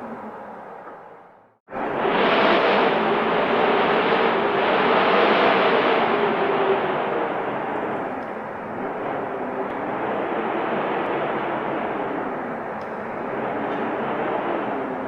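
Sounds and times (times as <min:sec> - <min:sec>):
wind blowing in gusts: 0:00.0 - 0:15.0.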